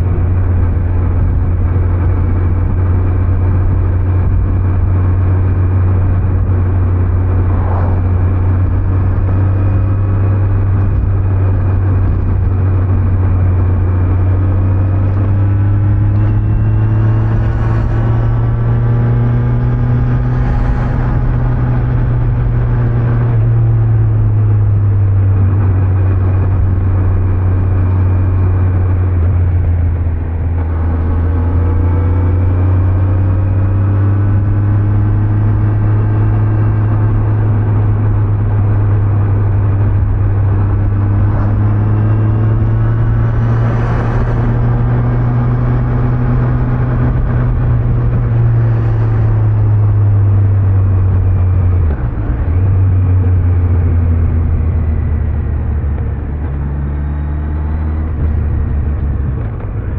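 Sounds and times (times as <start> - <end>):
motorcycle engine riding: 0.0 - 59.9.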